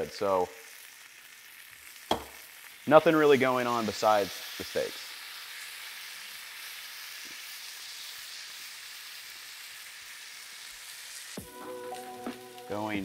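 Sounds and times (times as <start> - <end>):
steaks sizzling on a griddle: 0.0 - 13.0.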